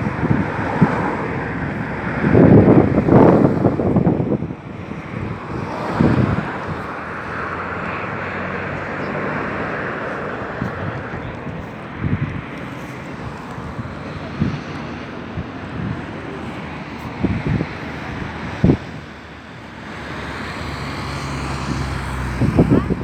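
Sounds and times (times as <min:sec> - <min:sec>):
wind buffeting thumps: 0:00.0 - 0:19.4, 0:21.4 - 0:23.0
wind rushing across microphone: 0:00.0 - 0:23.0.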